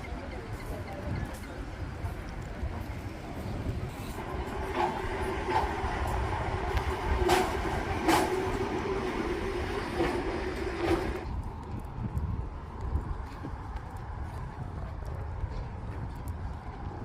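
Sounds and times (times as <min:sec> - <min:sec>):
vehicle humming: 0:01.9 - 0:17.0.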